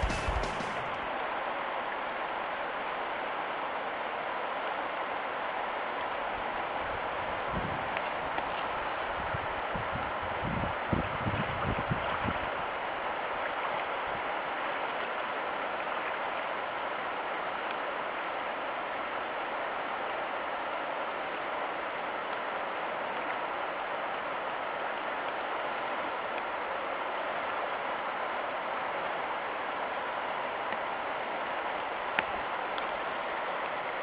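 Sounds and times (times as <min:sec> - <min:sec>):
river current rushing: 0:00.0 - 0:10.9, 0:12.3 - 0:34.0
rain falling on river: 0:00.0 - 0:34.0.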